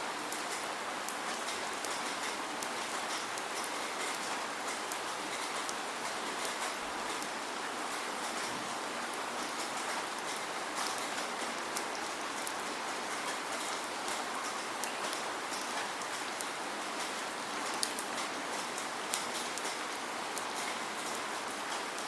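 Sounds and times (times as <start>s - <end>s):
steady rain hiss: 0.0s - 22.0s
raindrops ticking on hard surface: 0.1s - 22.0s.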